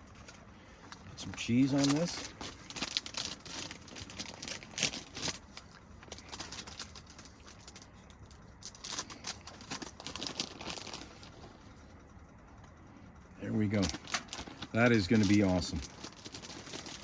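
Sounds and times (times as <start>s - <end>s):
hands rustling food packaging: 0.0s - 12.1s, 13.7s - 17.0s.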